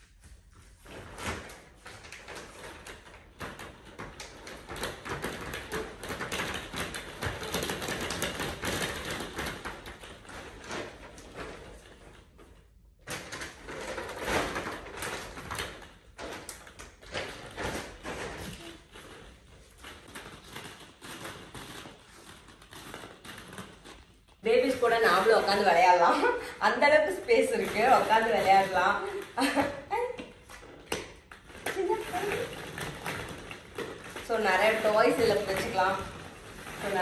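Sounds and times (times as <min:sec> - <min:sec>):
plastic balls clattering: 0:00.8 - 0:37.0.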